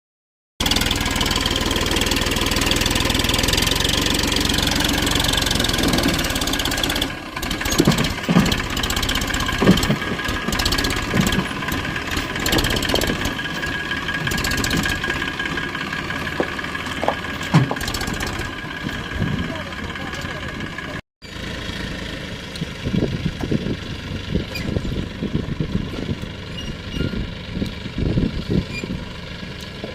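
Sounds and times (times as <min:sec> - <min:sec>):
tractor diesel engine running: 0:00.6 - 0:29.9.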